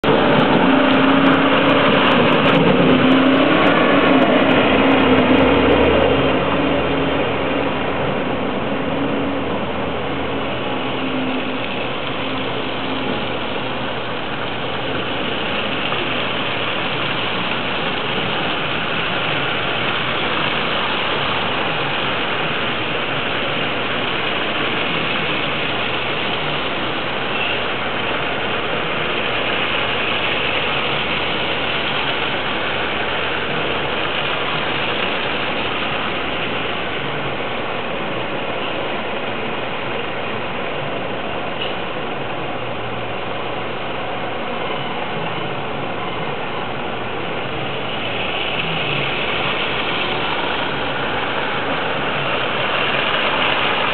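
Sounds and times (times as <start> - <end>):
road traffic hiss: 0.0 - 53.9.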